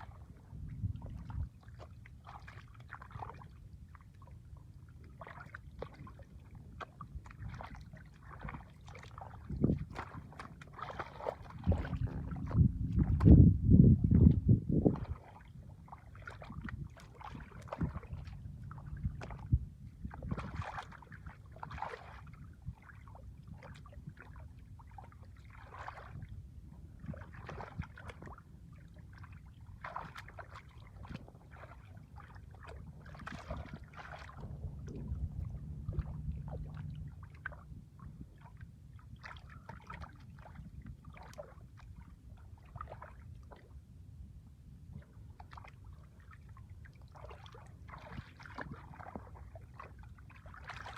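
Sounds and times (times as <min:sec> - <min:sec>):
shallow water splashing: 0:00.0 - 0:43.8, 0:44.8 - 0:50.9
low steady rumble: 0:00.0 - 0:50.9.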